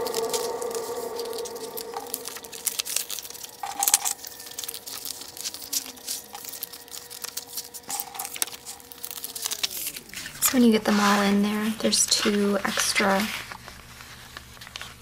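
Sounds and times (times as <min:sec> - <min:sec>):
faint steady hum: 0:00.0 - 0:15.0
plastic and paper crinkling: 0:00.0 - 0:15.0.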